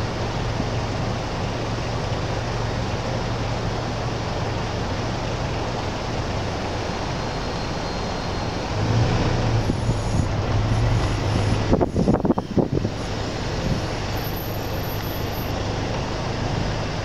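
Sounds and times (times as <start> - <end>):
vehicle and street noise: 0.0 - 17.0.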